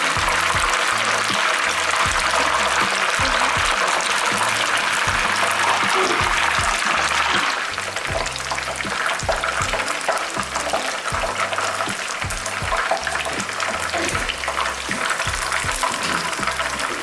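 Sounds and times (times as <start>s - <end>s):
background music with low beat: 0.0s - 17.0s
chicken deep-frying in oil: 0.0s - 17.0s.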